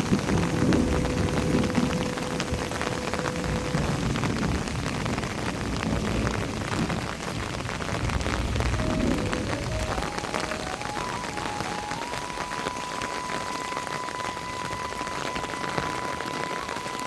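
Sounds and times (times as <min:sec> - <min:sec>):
raindrops ticking on surfaces: 0:00.0 - 0:17.0
steady rain falling: 0:00.0 - 0:17.0.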